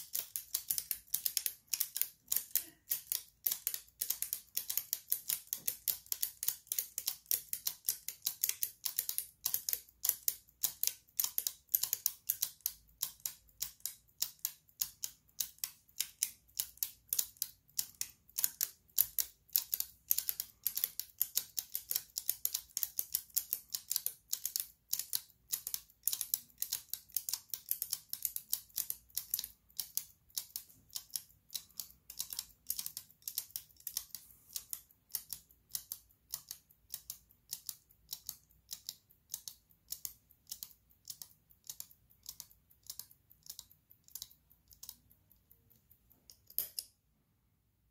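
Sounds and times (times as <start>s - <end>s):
clockwork mechanisms ticking: 0.0s - 47.0s.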